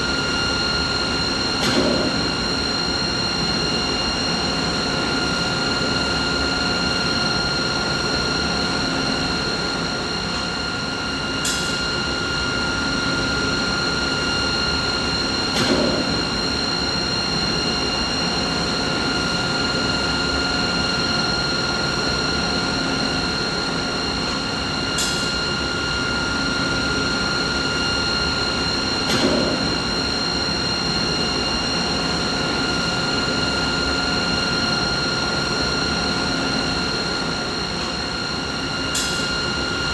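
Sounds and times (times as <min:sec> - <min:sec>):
machinery hum with whining tones: 0:00.0 - 0:39.9.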